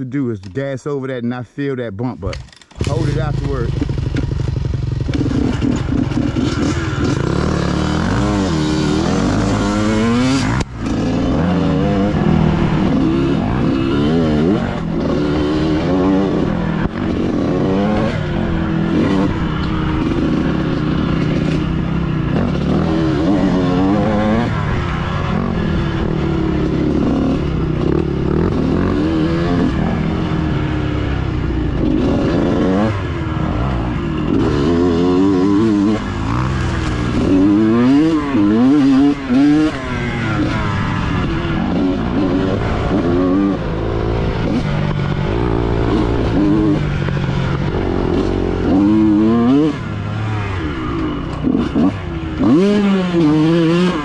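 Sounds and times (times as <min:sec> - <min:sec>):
dirt bike engine revving: 0:02.7 - 0:54.0.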